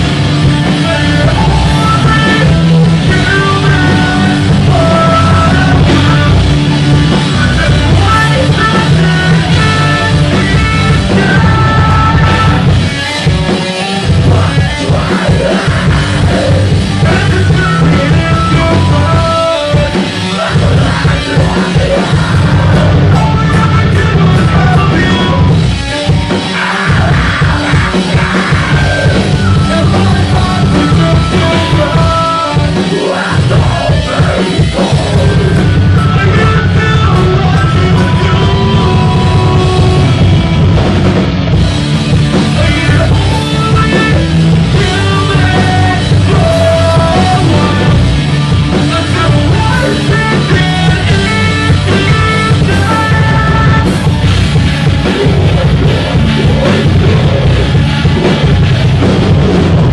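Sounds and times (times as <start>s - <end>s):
person singing: 0.0s - 40.8s, 42.1s - 58.6s
keyboard lines: 0.0s - 59.9s
loud rock band playing: 0.0s - 59.9s.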